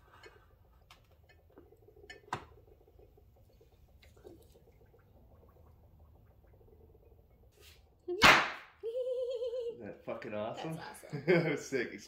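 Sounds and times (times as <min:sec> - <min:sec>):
gas bubbling and fizzing: 0:00.0 - 0:12.0.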